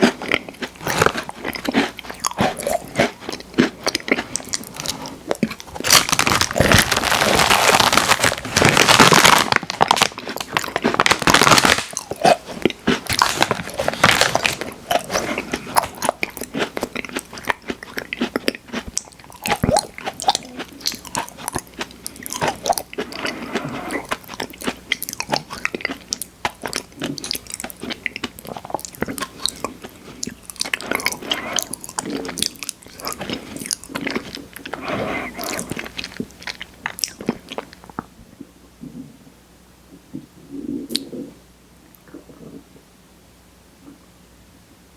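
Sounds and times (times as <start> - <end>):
crunching and chewing cookies: 0.0 - 39.1.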